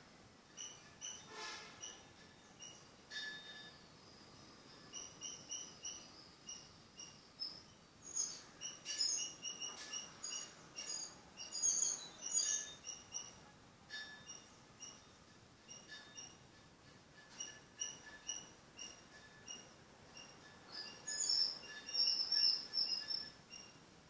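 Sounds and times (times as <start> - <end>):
birds chirping: 0.6 - 13.4, 17.4 - 23.8.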